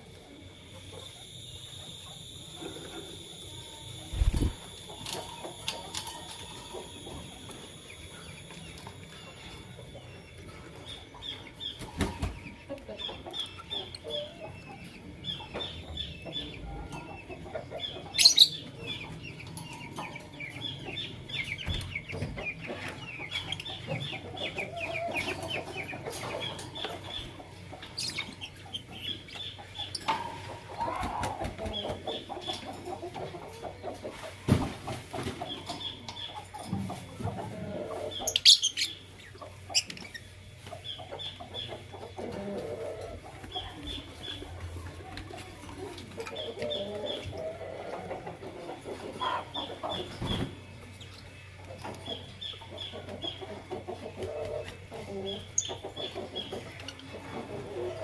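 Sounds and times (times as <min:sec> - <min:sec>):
lovebirds chattering: 0:00.0 - 0:34.3, 0:34.9 - 0:58.0.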